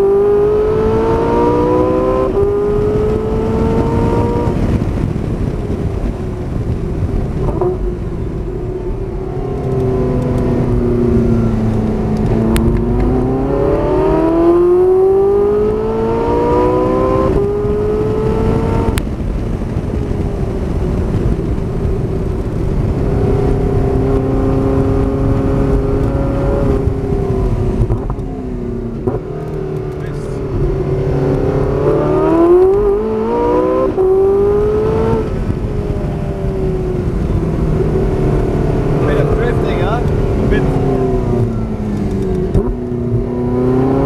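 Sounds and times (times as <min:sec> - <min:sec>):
sports car engine accelerating: 0:00.0 - 0:44.0.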